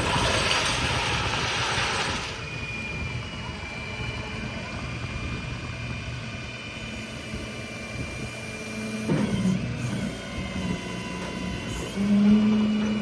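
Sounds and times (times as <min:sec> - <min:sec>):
tow truck engine hum and whine: 0:00.0 - 0:13.0.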